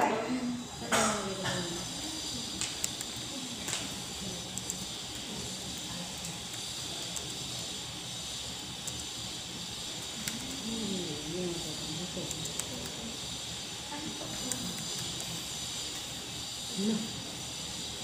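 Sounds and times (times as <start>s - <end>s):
faint murmur of voices: 0.0s - 18.0s
room hiss: 0.0s - 18.0s.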